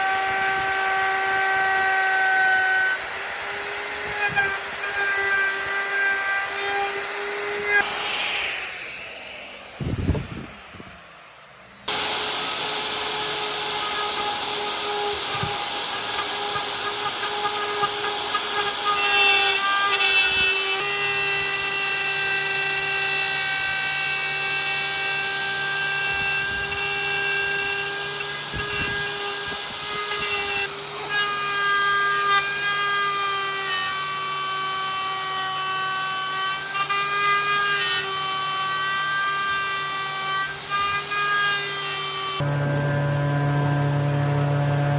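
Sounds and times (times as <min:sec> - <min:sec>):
electric power tool whining: 0:00.0 - 0:44.9.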